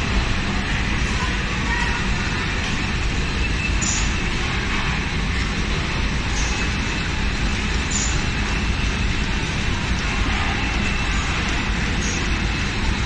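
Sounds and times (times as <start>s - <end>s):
packing line machine noise: 0.0s - 13.0s.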